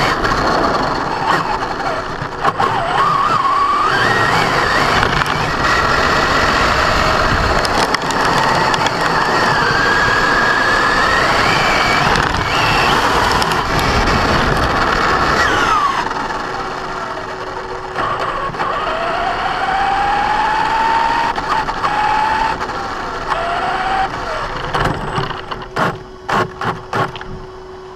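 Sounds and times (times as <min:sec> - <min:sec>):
harsh drivetrain grinding: 0:00.0 - 0:27.9
toy truck motor whine: 0:00.0 - 0:27.9.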